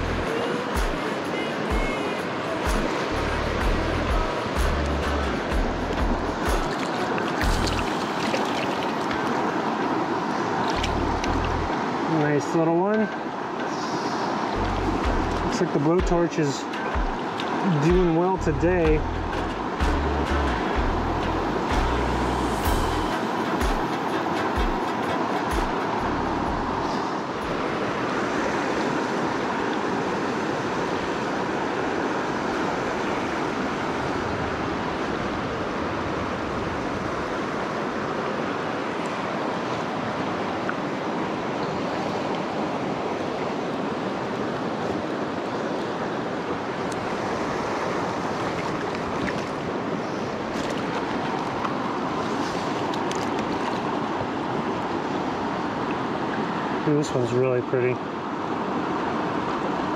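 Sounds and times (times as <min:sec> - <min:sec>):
flowing creek water: 0:00.0 - 0:59.9.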